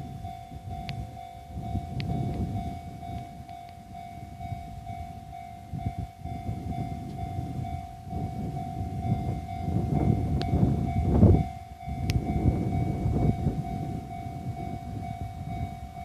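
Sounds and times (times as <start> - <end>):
level crossing bell ringing: 0.0 - 16.0.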